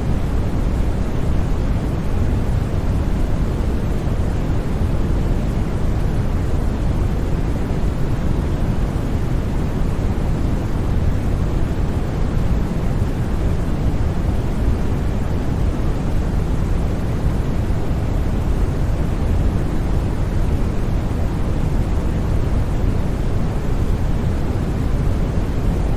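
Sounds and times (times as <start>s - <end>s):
white noise hiss: 0.0s - 25.9s.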